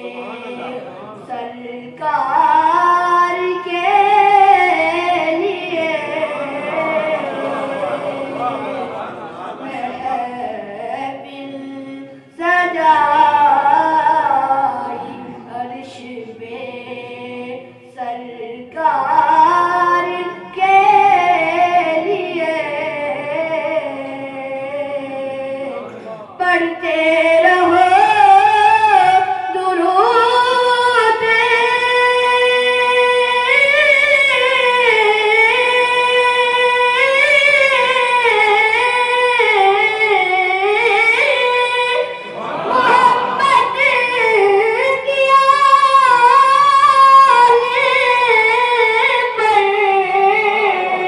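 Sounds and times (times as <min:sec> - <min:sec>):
boy singing: 0:00.0 - 0:08.9, 0:09.5 - 0:51.0.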